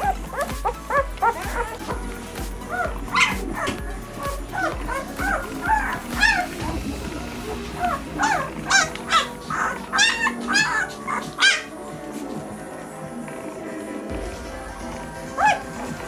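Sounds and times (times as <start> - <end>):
puppies squealing and whining: 0.0 - 12.3, 15.3 - 16.0.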